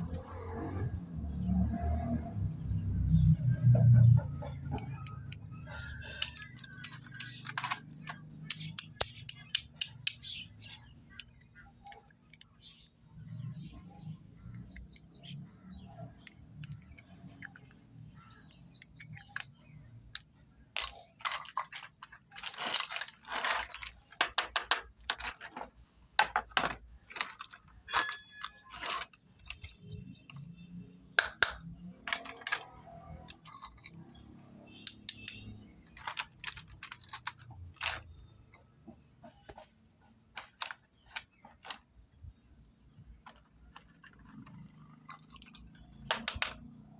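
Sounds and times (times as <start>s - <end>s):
plastic toys clicking and clattering: 3.8s - 46.9s.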